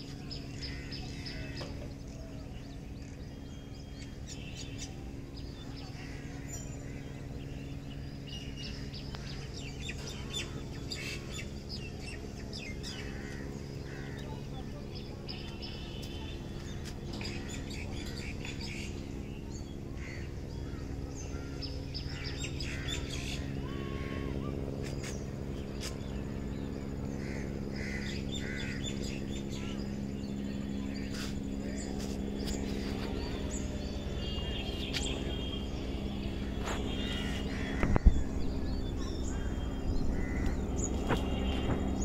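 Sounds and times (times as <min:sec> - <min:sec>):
birds chirping: 0:00.0 - 0:42.0
low hum: 0:00.0 - 0:42.0.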